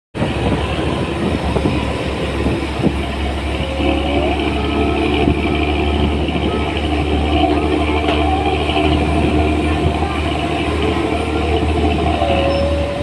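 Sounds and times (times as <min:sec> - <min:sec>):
bus exhaust rumbling: 0:00.1 - 0:13.0
higher drone: 0:00.2 - 0:13.0.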